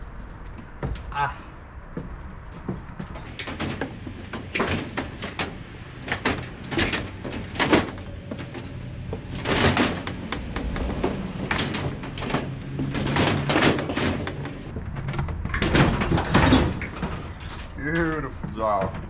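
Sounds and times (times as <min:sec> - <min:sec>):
metal knocks and clanks: 0:02.1 - 0:19.0.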